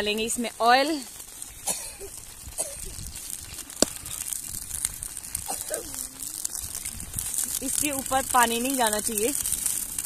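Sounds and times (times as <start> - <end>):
sharp fire pops: 0.0 - 10.0
wood fire crackling: 0.0 - 10.0.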